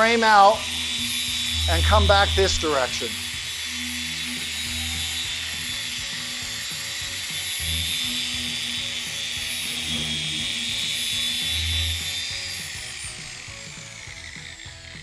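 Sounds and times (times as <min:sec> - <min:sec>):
electric polisher whining: 0:00.0 - 0:15.0.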